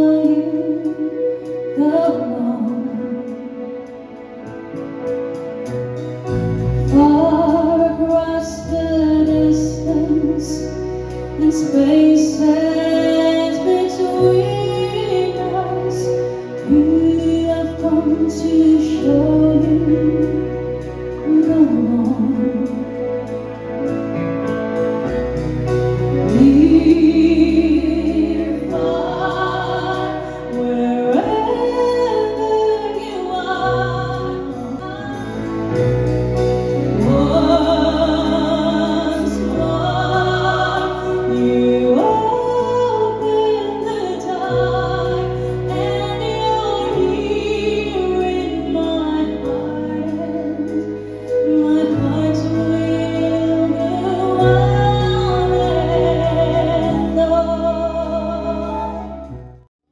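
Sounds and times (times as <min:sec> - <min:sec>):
woman singing lead: 0:00.0 - 0:05.7, 0:06.6 - 0:24.2, 0:25.0 - 0:59.6
keyboard: 0:00.0 - 0:59.7
bass guitar: 0:04.0 - 0:59.7.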